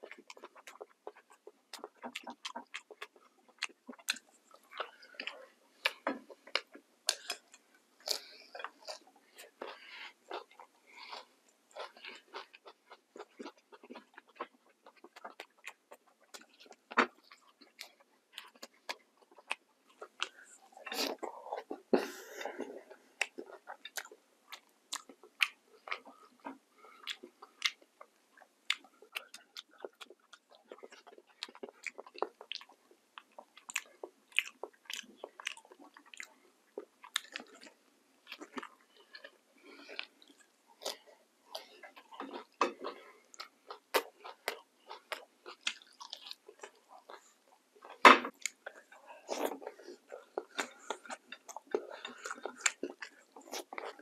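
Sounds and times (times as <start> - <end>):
man chewing food: 0.0 - 54.0.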